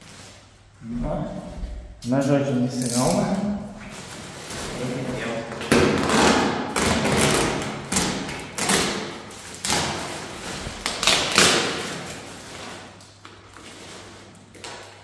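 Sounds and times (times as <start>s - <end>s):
plastic packaging rustling: 2.8s - 15.0s.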